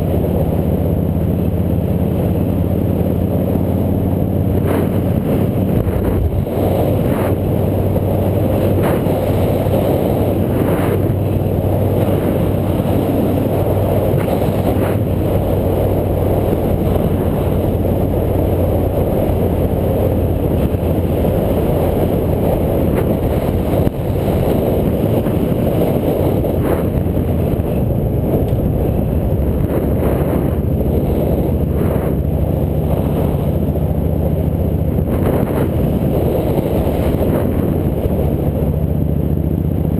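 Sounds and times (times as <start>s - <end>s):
vehicle drone: 0.0s - 39.9s
wind rush on microphone: 0.0s - 39.9s.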